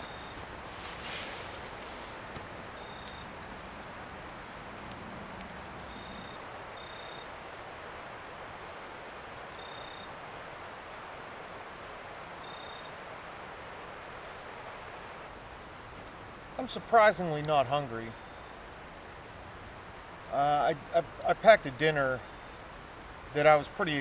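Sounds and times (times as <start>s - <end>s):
campfire crackling and popping: 0.0s - 24.0s
rushing hiss of fire: 0.0s - 24.0s.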